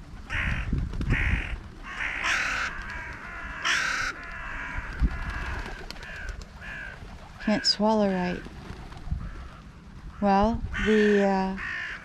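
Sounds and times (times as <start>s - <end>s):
crows cawing: 0.3s - 8.4s, 9.2s - 12.0s.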